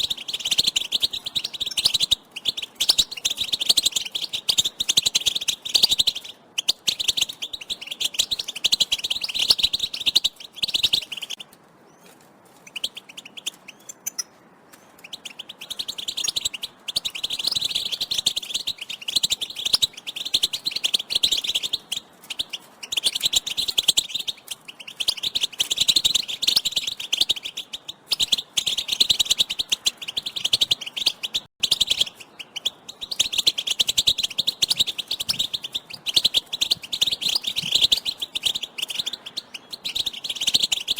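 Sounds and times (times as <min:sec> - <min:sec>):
birds twittering: 0:00.0 - 0:40.9.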